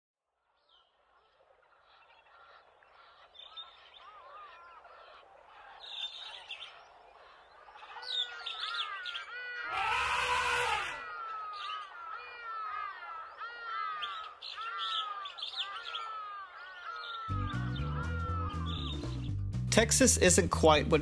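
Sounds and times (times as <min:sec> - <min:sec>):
birds chirping and whistling: 0:01.9 - 0:19.4.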